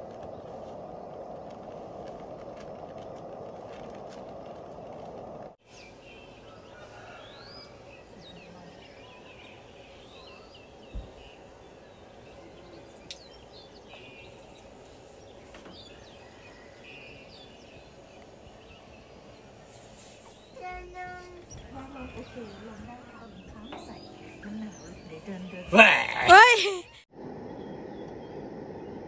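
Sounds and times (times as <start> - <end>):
outdoor background hiss: 0.0 - 29.0
small birds chirping: 4.6 - 29.0.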